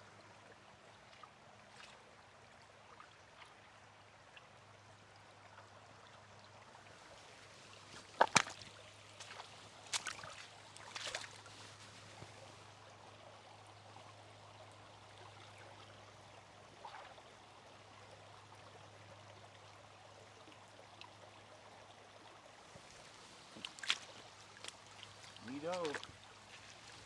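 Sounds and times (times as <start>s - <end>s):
creek water flowing: 0.0s - 27.0s.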